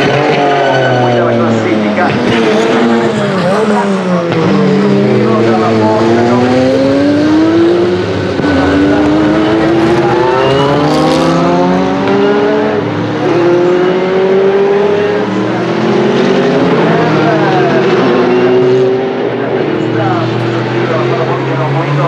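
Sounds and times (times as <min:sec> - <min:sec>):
racing car engine accelerating: 0:00.0 - 0:22.0
second racing car engine: 0:00.0 - 0:22.0.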